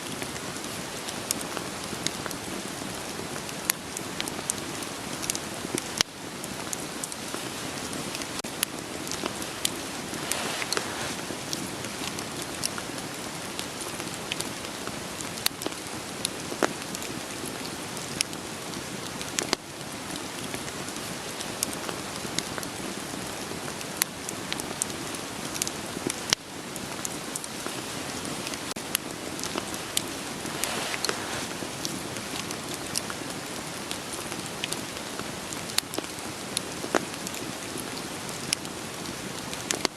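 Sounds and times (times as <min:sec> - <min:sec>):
steady rain hiss: 0:00.0 - 0:39.9
wood fire crackling: 0:00.0 - 0:39.9.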